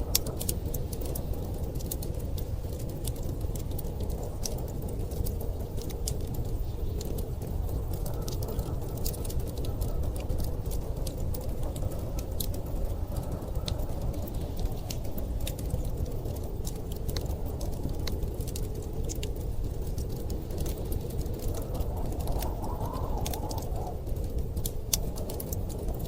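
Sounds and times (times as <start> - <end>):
blizzard wind rumble: 0.0 - 26.0
wood fire crackling: 0.0 - 26.0.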